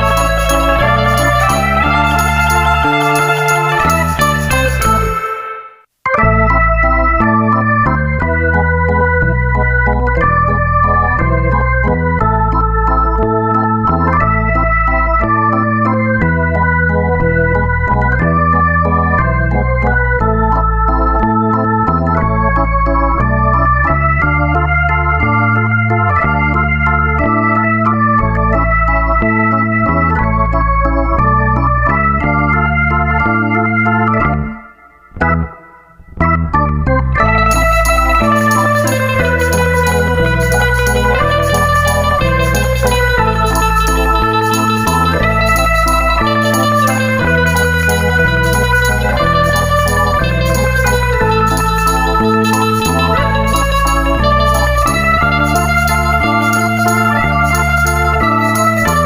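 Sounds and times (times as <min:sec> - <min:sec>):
bass line: 0:00.0 - 0:59.0
organ-like keyboard melody: 0:00.0 - 0:59.0.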